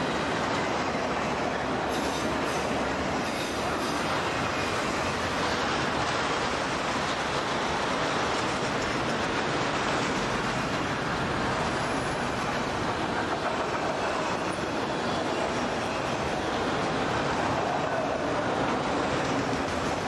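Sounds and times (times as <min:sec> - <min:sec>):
freight train wheels on rail: 0:00.0 - 0:20.0
light clicking of train: 0:00.0 - 0:20.0.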